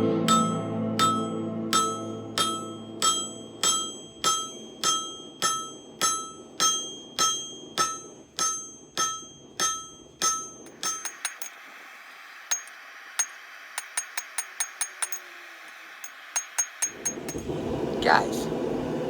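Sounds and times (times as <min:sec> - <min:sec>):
hammer striking steel on anvil: 0:00.0 - 0:17.5.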